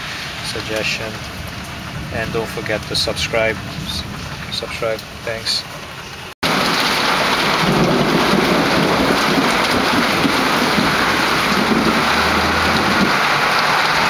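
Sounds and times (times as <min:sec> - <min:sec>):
heavy rain on pavement and car: 0:00.0 - 0:14.0.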